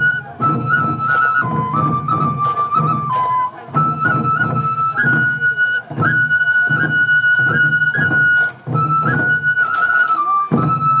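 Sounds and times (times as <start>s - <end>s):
taiko drums beating: 0.0s - 11.0s
transverse flute melody: 0.0s - 11.0s.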